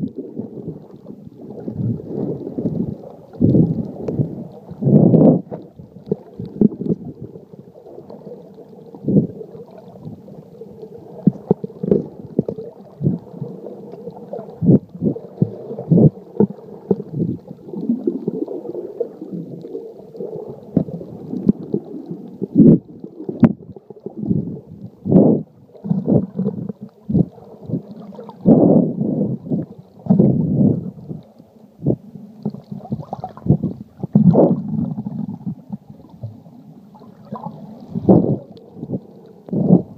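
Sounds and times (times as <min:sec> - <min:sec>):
underwater thumps and gurgling: 0:00.0 - 0:10.4, 0:11.0 - 0:39.9
muffled underwater rumble: 0:00.0 - 0:39.9.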